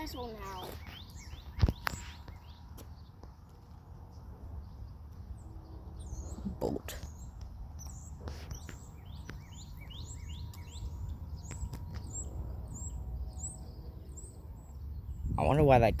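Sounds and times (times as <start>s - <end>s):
small bird chirping: 0.0s - 15.6s.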